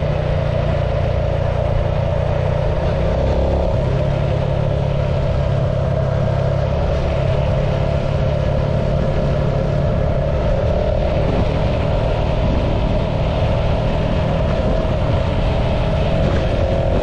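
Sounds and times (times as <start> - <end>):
road noise: 0.0 - 17.0
vehicle engine: 0.0 - 17.0
wind: 0.0 - 17.0.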